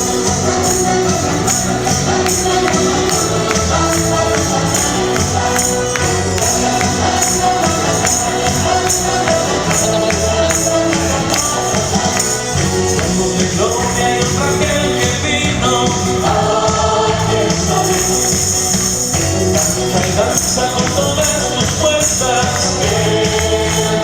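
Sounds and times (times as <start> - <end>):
tambourine jingling: 0.0 - 24.0
upbeat praise music: 0.0 - 24.0.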